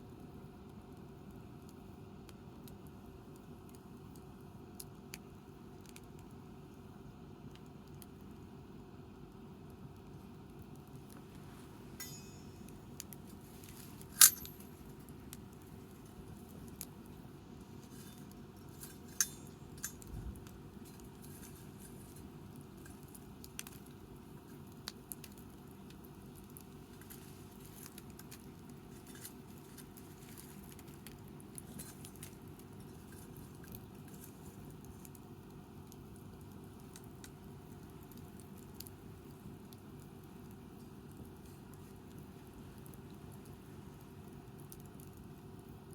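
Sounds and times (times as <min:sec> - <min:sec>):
low steady hiss: 0:00.0 - 0:45.9
campfire crackling and popping: 0:00.2 - 0:45.9.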